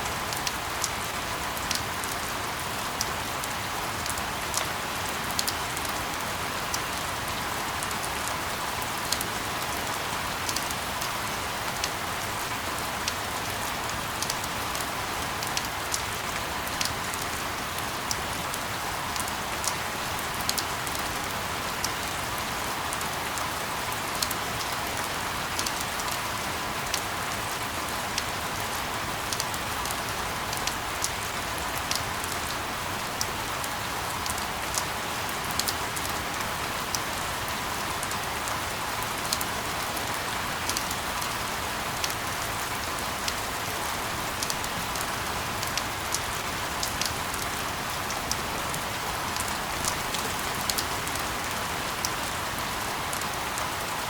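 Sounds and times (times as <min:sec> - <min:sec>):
raindrops ticking on surface: 0:00.1 - 0:54.0.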